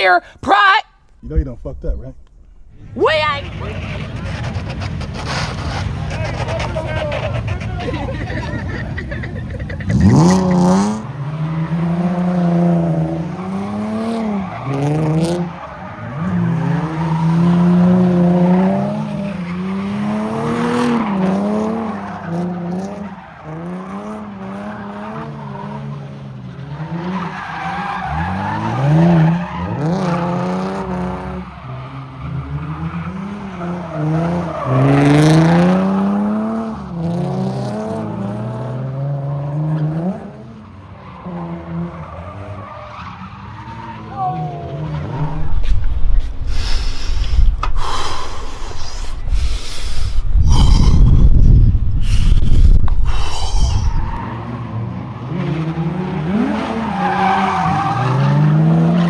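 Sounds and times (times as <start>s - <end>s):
car engine revving: 1.3s - 48.8s, 50.4s - 59.0s
tires skidding and squealing: 2.8s - 59.0s.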